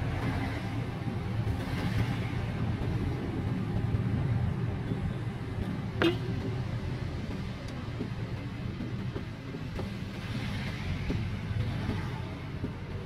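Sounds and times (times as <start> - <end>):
car road and engine rumble: 0.0 - 13.0
tyres and rain hiss: 0.0 - 13.0.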